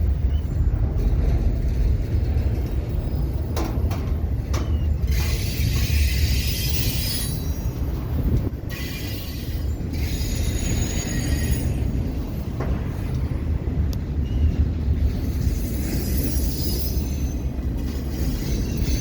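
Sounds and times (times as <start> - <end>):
freight train rumbling past: 0.0 - 19.0
wheels clacking over rail joints: 0.0 - 19.0
wheels squealing on rails: 0.0 - 19.0.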